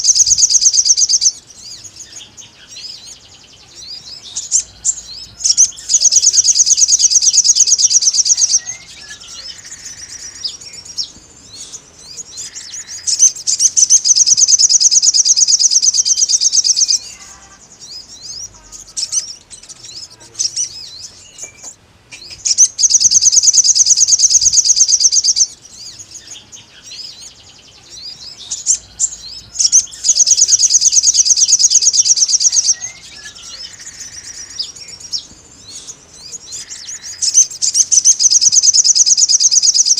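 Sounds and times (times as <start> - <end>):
bird chirps: 0.0 - 39.9
bird singing high-pitched trills: 0.0 - 39.9.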